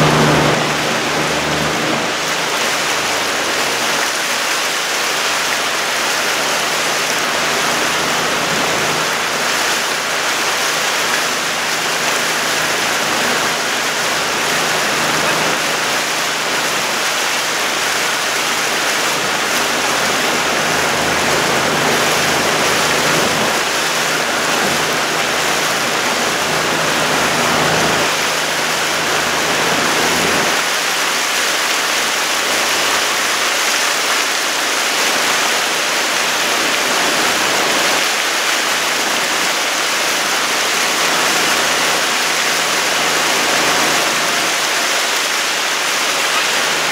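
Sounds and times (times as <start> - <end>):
water rushing past boat: 0.0 - 46.9.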